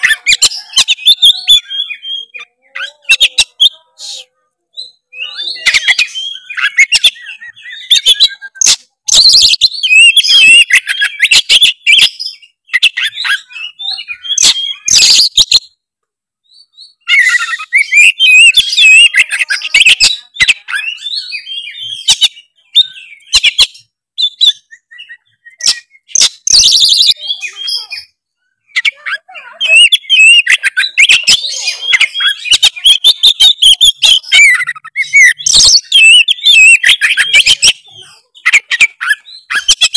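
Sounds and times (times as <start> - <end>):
songbird whistling and chattering: 0.0 - 15.8, 16.4 - 39.9.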